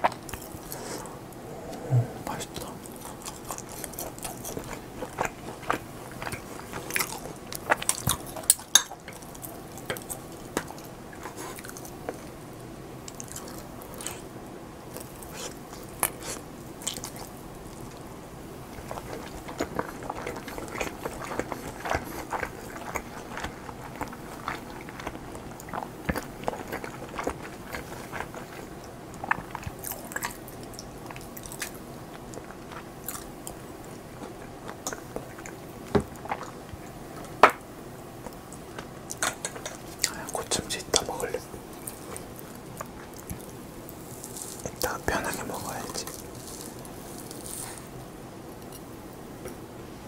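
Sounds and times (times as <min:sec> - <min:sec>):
person chewing food: 0:00.0 - 0:12.4, 0:13.0 - 0:14.3, 0:14.9 - 0:18.1, 0:18.7 - 0:49.6.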